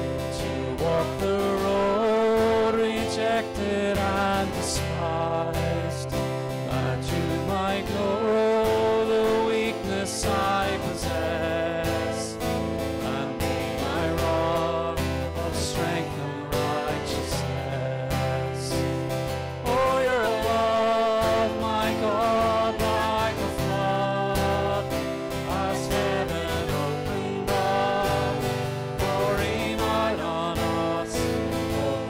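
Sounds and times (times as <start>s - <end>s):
acoustic guitar: 0.0s - 32.0s
woman and man singing hymn: 0.4s - 12.4s, 13.0s - 18.9s, 19.7s - 32.0s.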